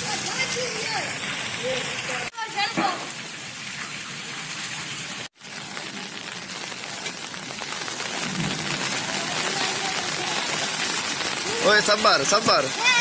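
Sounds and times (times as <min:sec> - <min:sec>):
heavy rain on flooded ground: 0:00.0 - 0:13.0.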